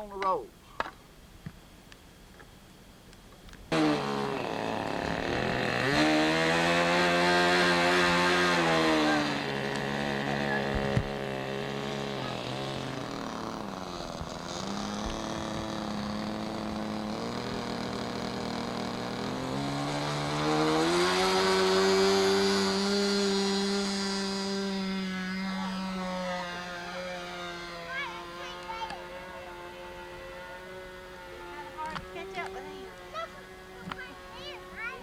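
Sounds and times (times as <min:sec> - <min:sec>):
model airplane engine buzzing: 0:03.5 - 0:35.0.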